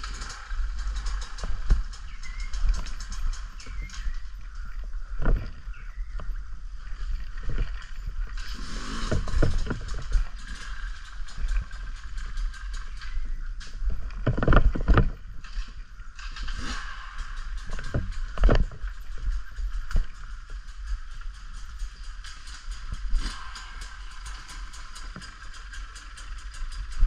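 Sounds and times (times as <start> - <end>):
off-road motorbike riding: 0.0 - 27.0
tyre and mud noise: 0.0 - 27.0
wind rumble on microphone: 0.0 - 27.0.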